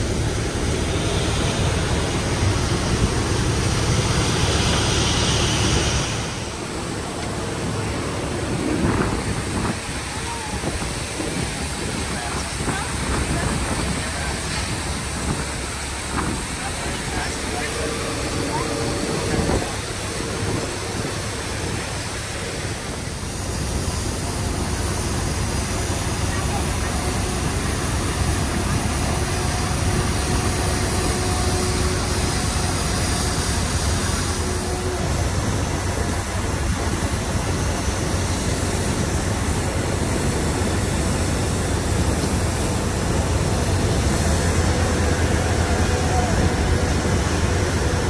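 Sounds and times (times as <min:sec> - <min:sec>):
jet engines and airflow in cabin: 0:00.0 - 0:48.0.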